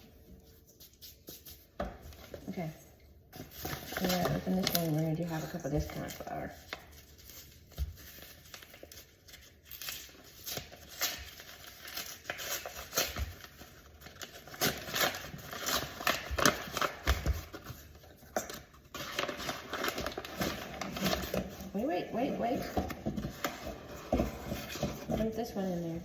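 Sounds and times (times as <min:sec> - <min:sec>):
flour bag crinkling and rustling: 0:03.4 - 0:25.8.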